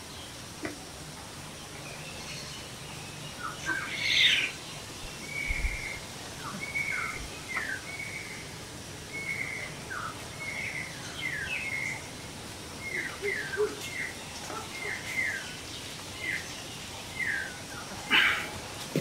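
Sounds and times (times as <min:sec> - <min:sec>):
loud full bird call: 0:01.5 - 0:19.0.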